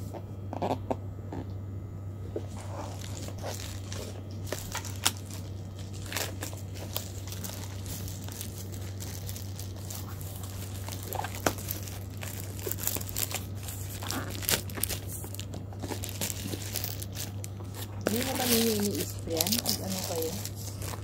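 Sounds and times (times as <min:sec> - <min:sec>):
plastic bag crinkling and tearing: 0:02.6 - 0:21.0.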